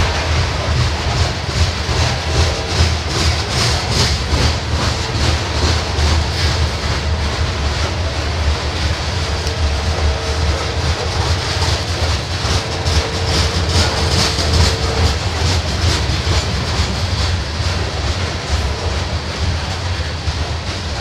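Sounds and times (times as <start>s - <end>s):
rhythmic wheel clacks: 0.0s - 21.0s
train wheels rumbling on rails: 0.0s - 21.0s.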